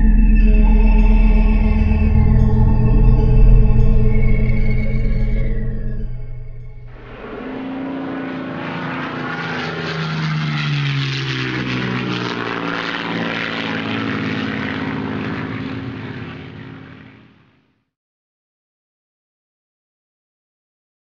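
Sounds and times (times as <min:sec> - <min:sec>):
propeller airplane flying past: 0:00.0 - 0:17.7.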